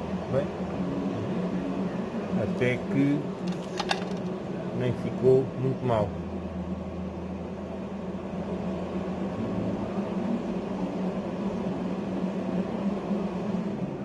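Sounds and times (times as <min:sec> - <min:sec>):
lower hum: 0:00.0 - 0:14.0.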